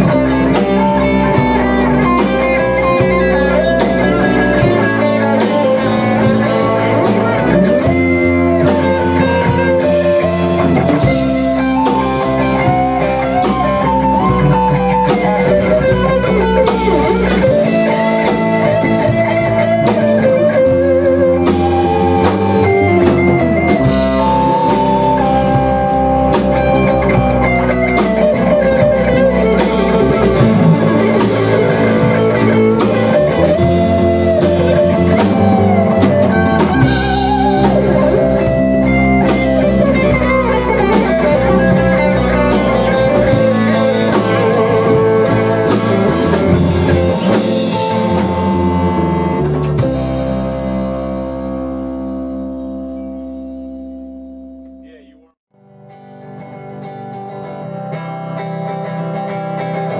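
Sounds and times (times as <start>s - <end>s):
drum kit beat: 0.0s - 53.5s
bass guitar: 0.0s - 59.9s
electric guitars: 0.0s - 59.9s.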